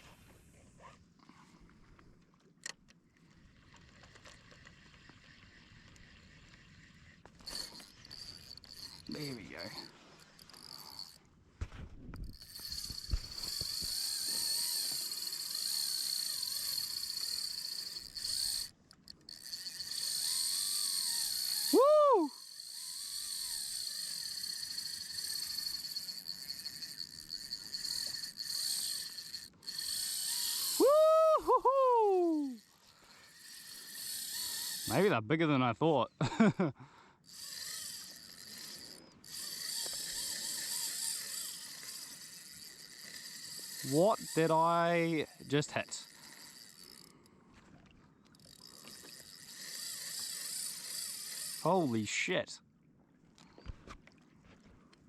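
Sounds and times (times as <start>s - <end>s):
fishing reel drag whining: 2.6s - 11.3s, 12.1s - 35.2s, 37.2s - 52.5s.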